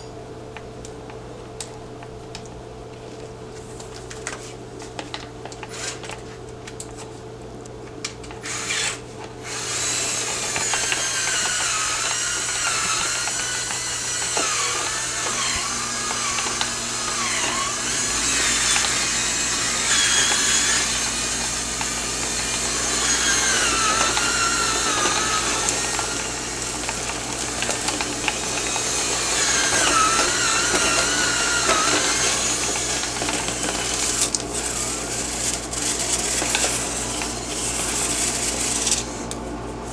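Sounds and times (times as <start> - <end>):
power drill whining: 5.6 - 6.2, 8.3 - 39.9.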